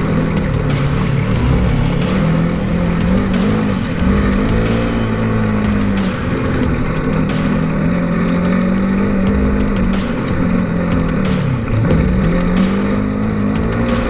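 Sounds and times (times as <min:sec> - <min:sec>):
engine revving: 0:00.0 - 0:14.0
sharp knocks and clatter: 0:00.0 - 0:14.0.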